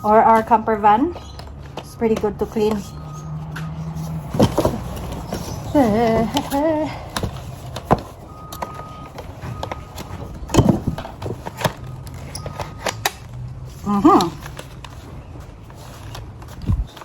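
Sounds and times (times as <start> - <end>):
plastic parts clicking and knocking: 0.2 - 17.0.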